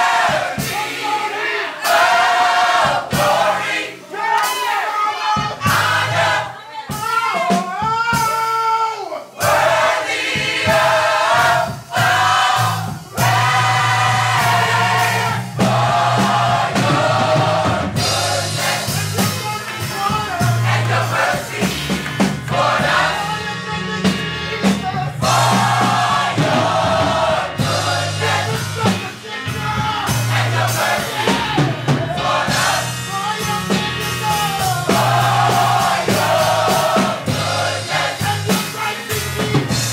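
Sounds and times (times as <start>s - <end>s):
gospel choir singing: 0.0s - 8.3s, 9.2s - 39.9s
instrumental accompaniment: 0.0s - 8.5s, 9.3s - 39.9s.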